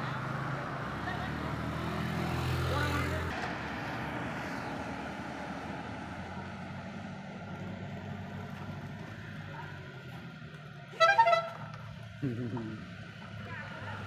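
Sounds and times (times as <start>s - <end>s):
motorcycle driving away: 0.0s - 10.4s, 12.1s - 14.0s
pickup truck driving away: 0.0s - 14.0s.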